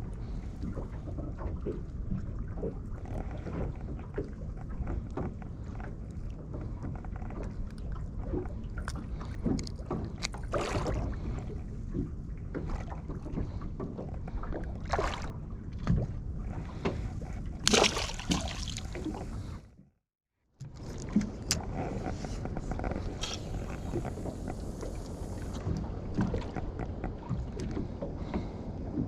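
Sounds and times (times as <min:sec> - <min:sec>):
water noise: 0:00.0 - 0:19.7, 0:20.6 - 0:29.0
knocks and splashes against hull: 0:00.0 - 0:20.0, 0:20.6 - 0:29.0
wind: 0:00.0 - 0:29.0.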